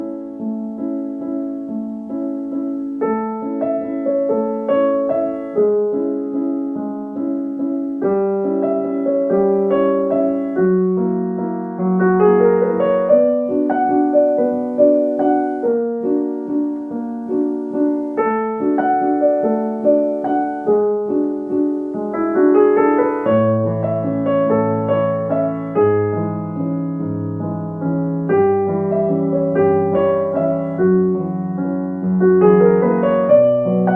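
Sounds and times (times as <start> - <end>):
gentle piano music: 0.0 - 33.9.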